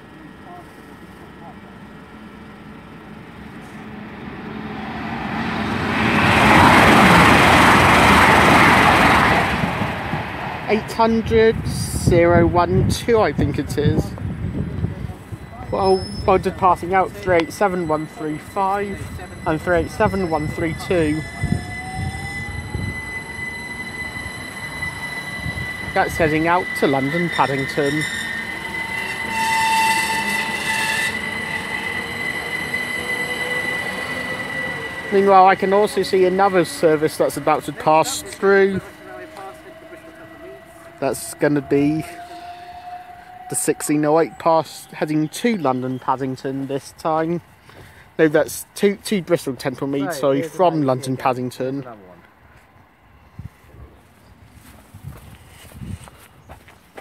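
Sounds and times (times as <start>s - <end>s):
train passing at speed: 0.0s - 57.0s
extra tone: 1.4s - 47.4s.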